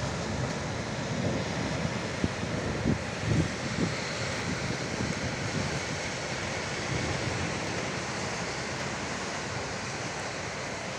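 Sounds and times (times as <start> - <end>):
heavy rain falling: 0.0 - 10.9
wind gusts on microphone: 0.0 - 10.9.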